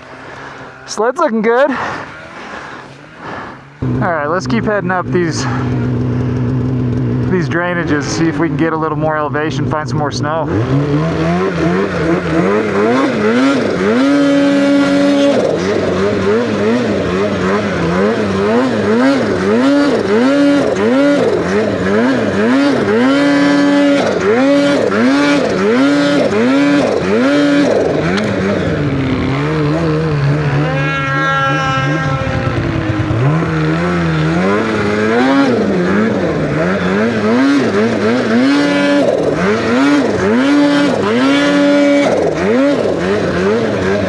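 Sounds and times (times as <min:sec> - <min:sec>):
snowmobile engine revving: 0:00.0 - 0:44.0.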